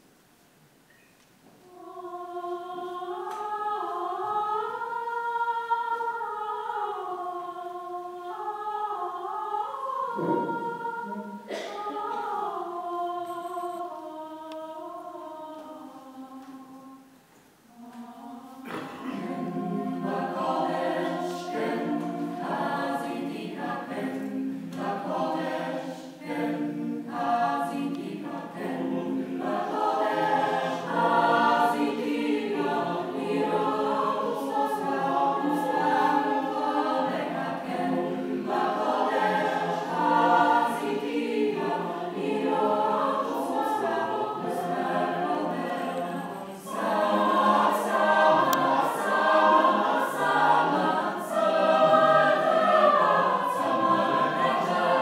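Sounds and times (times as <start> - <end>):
mixed choir singing in harmony: 1.6 - 17.1, 17.7 - 55.0.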